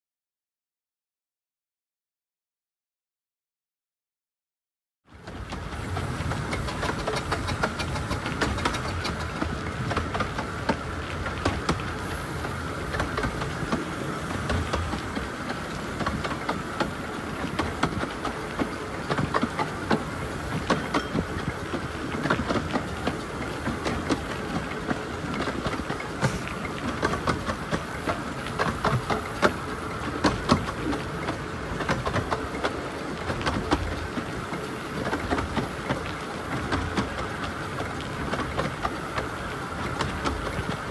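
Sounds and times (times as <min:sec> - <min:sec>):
train rumble: 0:05.1 - 0:40.9
wheels clicking over rails: 0:05.1 - 0:40.9.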